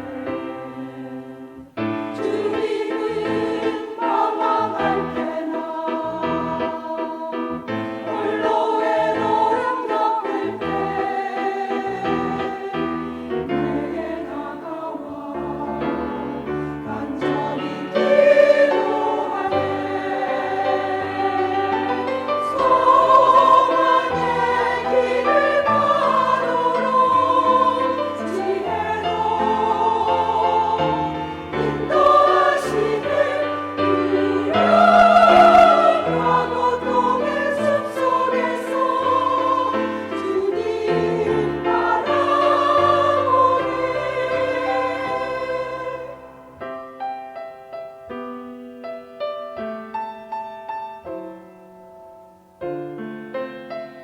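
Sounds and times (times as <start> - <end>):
church choir singing: 0.0 - 48.2.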